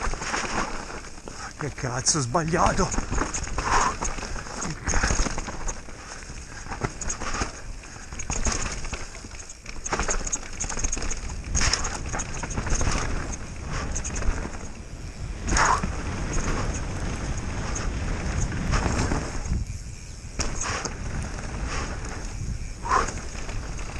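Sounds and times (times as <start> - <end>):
bike rattling and knocking: 0.0 - 23.9
bike tyres on loose dirt: 0.0 - 23.9.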